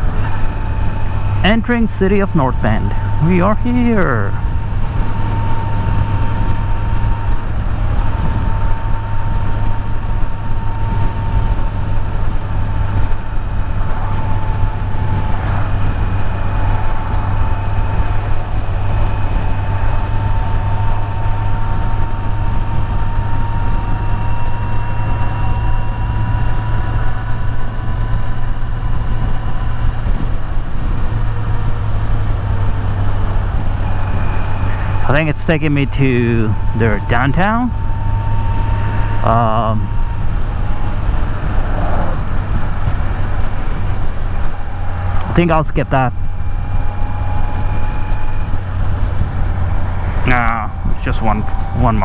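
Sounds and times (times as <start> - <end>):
faint thin whine: 0.0 - 52.0
motorcycle engine running: 0.0 - 52.0.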